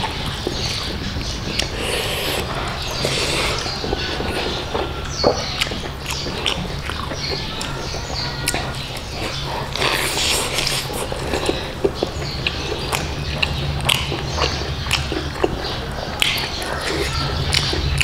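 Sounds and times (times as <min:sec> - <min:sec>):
open-mouthed chewing and lip-smacking: 0:00.0 - 0:18.0.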